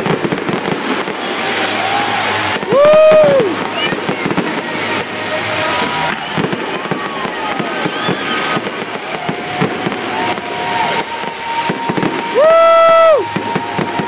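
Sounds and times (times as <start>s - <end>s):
fireworks bursting and crackling: 0.0s - 14.0s
fireworks whistles: 0.0s - 14.0s.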